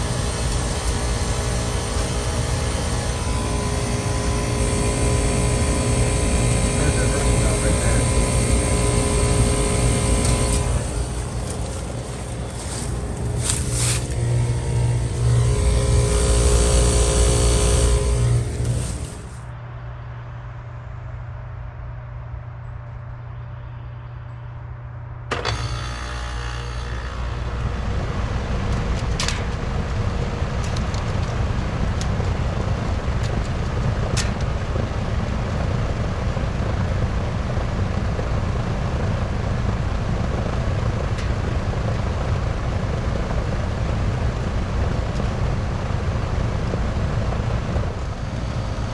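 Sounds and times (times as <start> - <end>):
heat pump unit running: 0.0 - 19.5, 25.3 - 48.9
low hum: 0.0 - 48.9.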